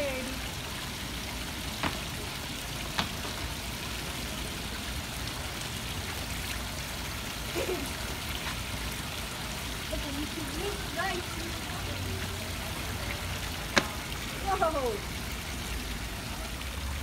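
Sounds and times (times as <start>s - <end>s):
fountain water splashing into basin: 0.0s - 17.0s.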